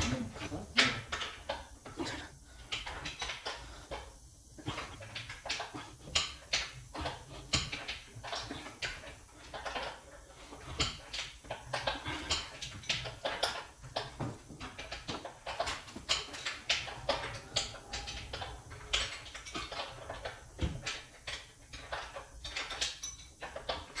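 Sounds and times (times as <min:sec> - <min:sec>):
irregular clicks and knocks: 0:00.0 - 0:24.0.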